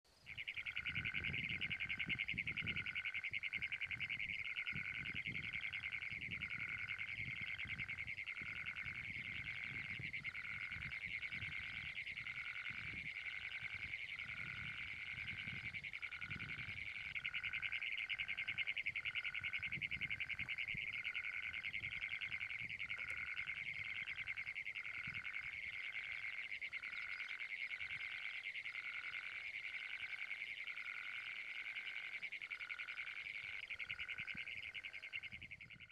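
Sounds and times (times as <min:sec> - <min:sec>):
toad trilling: 0:00.2 - 0:35.9.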